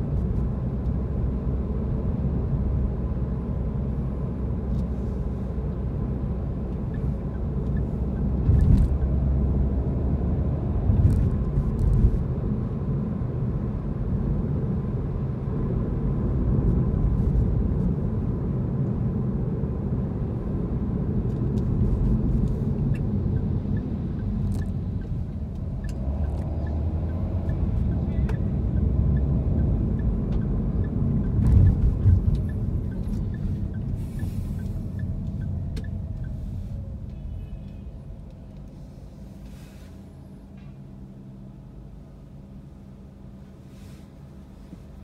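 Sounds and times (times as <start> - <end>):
car interior engine and tyre noise: 0.0 - 45.0.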